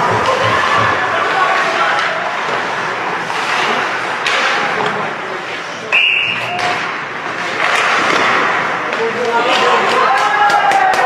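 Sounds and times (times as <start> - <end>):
crowd and arena noise: 0.0 - 11.0.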